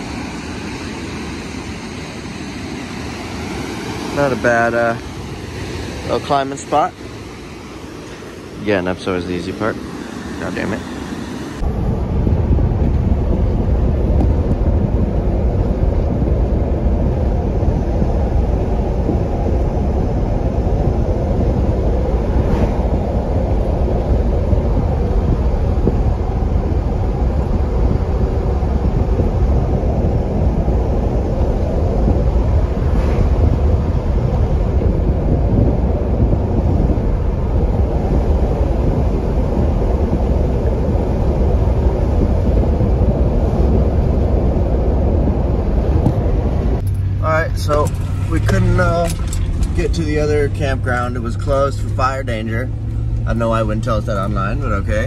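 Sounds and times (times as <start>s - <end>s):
truck engine and tyres rumbling: 0.0s - 55.0s
wind on microphone: 0.0s - 55.0s.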